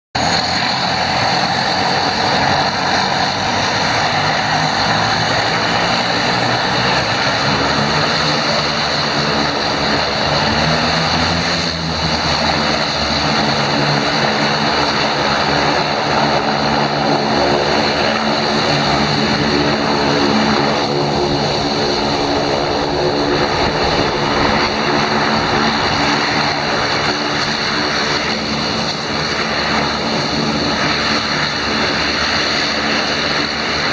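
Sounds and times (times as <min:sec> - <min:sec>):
floatplane engine and propeller: 0:00.1 - 0:33.9.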